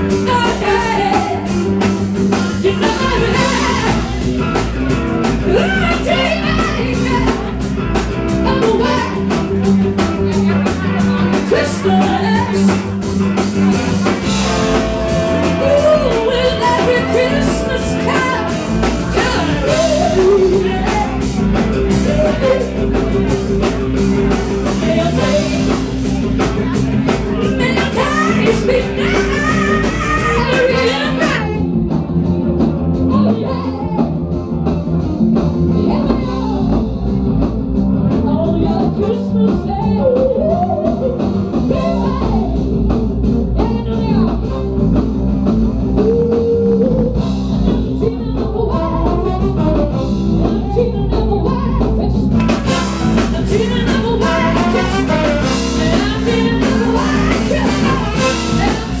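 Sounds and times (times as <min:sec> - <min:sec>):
woman singing: 0:00.0 - 0:01.8, 0:02.4 - 0:04.2, 0:05.3 - 0:31.6, 0:33.1 - 0:34.2, 0:35.8 - 0:36.8, 0:38.1 - 0:42.6, 0:43.5 - 0:45.0, 0:46.0 - 0:59.0
funk band playing: 0:00.0 - 0:59.0.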